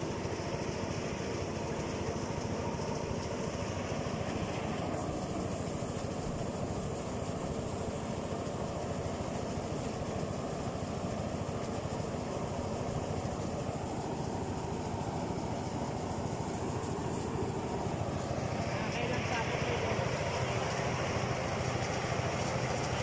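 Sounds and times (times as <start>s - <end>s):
engine-driven thresher running: 0.0s - 23.0s.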